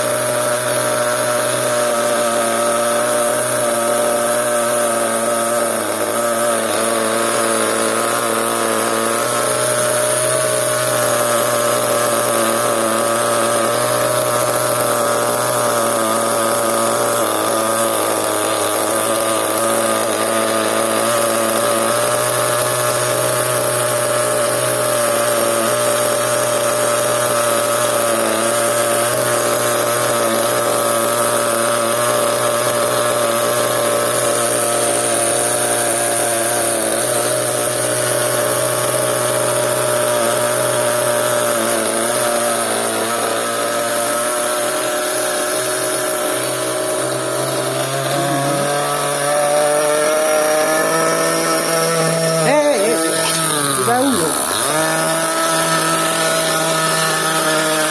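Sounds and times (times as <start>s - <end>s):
small nitro engine buzzing: 0.0s - 57.9s.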